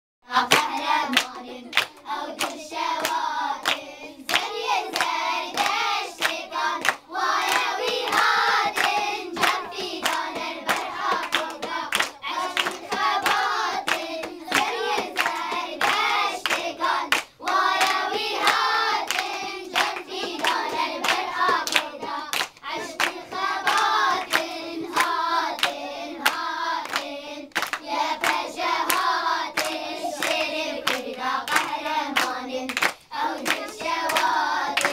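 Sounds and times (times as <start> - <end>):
children singing in unison: 0.3 - 34.9
hands clapping: 0.4 - 34.9.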